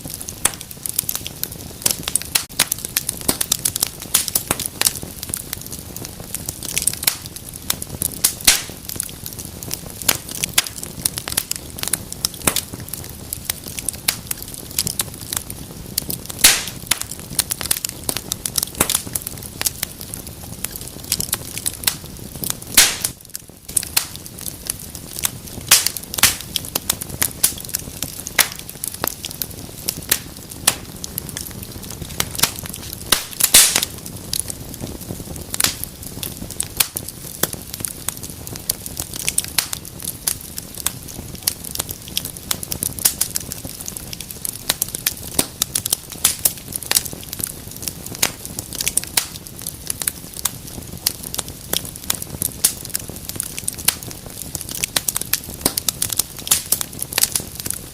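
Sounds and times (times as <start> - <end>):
fireplace fire crackling and popping: 0.0 - 57.9
low rumble of flames: 0.0 - 57.9.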